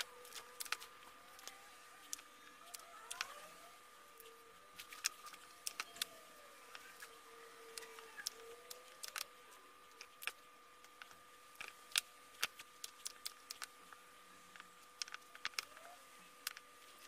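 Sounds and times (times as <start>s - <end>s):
metal strips and cells clicking: 0.0s - 3.6s, 4.2s - 7.1s, 7.7s - 9.3s, 9.9s - 13.8s, 14.5s - 17.0s
faint electronic whine: 0.0s - 17.0s.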